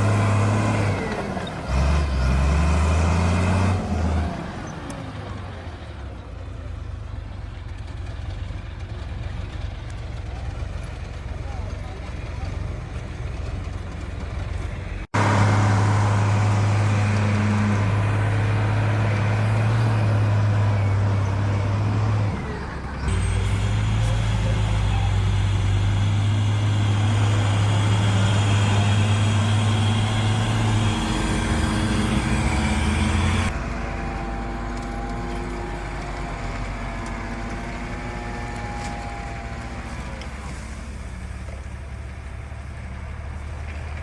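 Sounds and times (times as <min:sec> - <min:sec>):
bulldozer diesel engine droning: 0:00.0 - 0:44.0.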